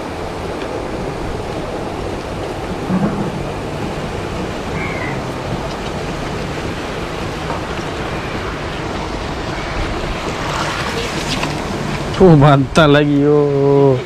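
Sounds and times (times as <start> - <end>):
rushing water: 0.0 - 14.0
wind: 0.0 - 14.0.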